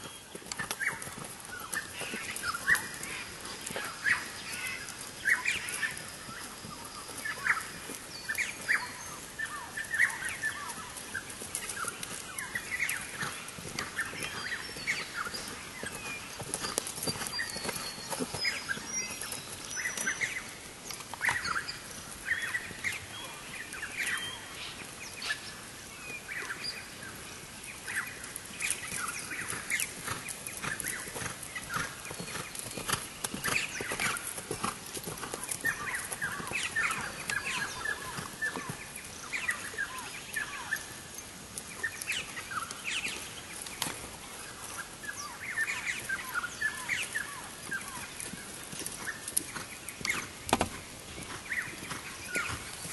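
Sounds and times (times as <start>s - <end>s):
birds calling: 0.0s - 25.5s, 27.7s - 52.9s
horse hoofbeats on grass: 0.0s - 52.9s.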